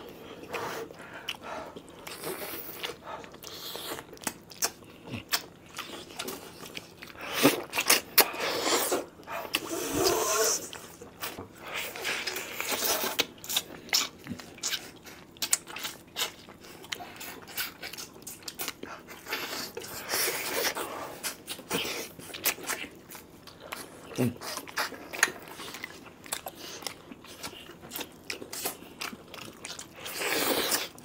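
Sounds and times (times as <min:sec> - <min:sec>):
people crunching and chewing: 0:00.0 - 0:31.0.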